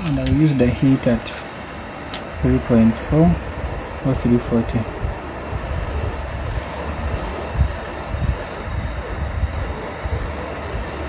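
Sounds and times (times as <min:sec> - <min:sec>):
hot air blower rushing: 0:00.0 - 0:11.0.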